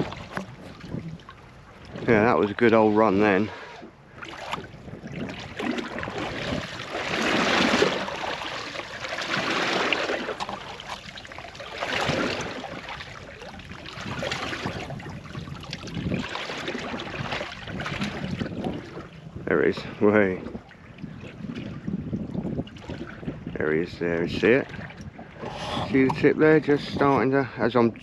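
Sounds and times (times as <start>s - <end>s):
wind noise: 0.0s - 3.5s, 4.3s - 8.3s, 11.8s - 28.0s
water sloshing: 0.0s - 28.0s.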